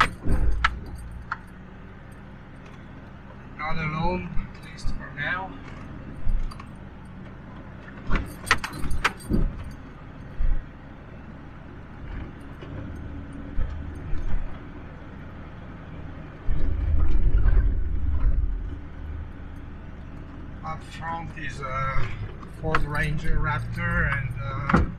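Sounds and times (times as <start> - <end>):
sharp rattles and knocks: 0.0 - 3.4, 4.3 - 10.9, 11.9 - 24.9
engine and tyres humming: 0.0 - 24.9
truck bouncing over bumps: 0.0 - 24.9.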